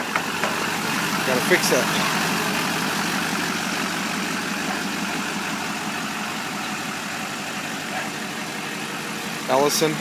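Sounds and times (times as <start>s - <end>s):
diesel engine idling clatter: 0.0s - 10.0s.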